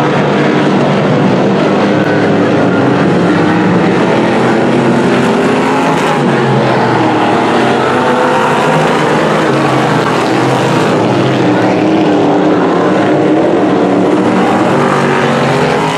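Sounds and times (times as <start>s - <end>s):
race car engines running: 0.0s - 15.9s.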